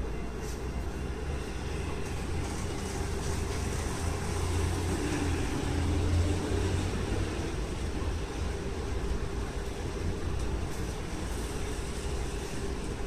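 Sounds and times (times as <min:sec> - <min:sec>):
tram equipment humming: 0:00.0 - 0:13.0.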